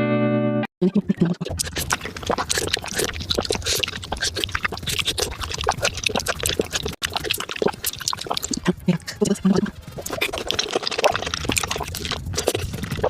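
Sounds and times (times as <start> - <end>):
fruit being bitten and chewed: 0.8 - 13.0.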